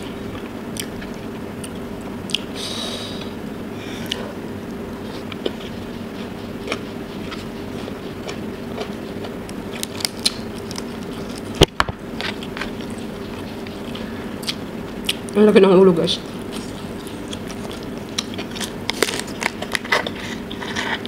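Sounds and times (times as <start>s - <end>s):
person chewing food: 0.0s - 2.6s, 3.2s - 15.4s, 16.2s - 21.0s
steady low hum: 0.0s - 21.0s.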